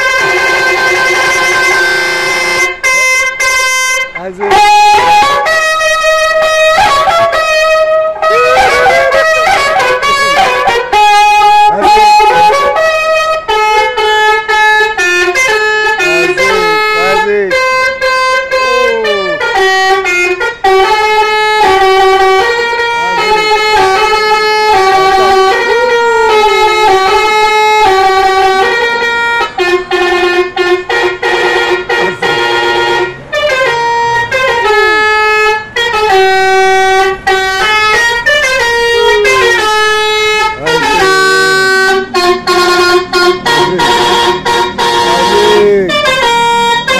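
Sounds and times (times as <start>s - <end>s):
musical bus horn tune: 0.0s - 46.9s.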